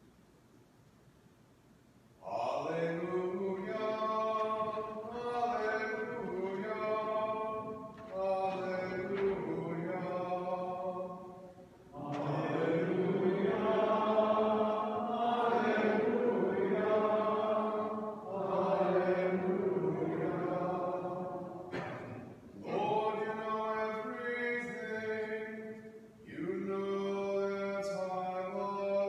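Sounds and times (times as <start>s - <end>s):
person chanting unaccompanied: 2.2s - 21.7s, 22.6s - 29.0s.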